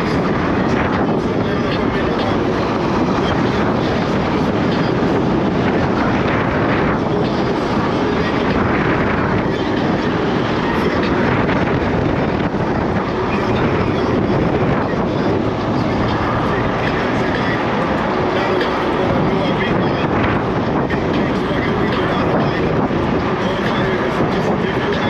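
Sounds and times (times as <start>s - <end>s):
tyre and road noise: 0.0s - 25.0s
wind rushing on microphone: 0.0s - 25.0s.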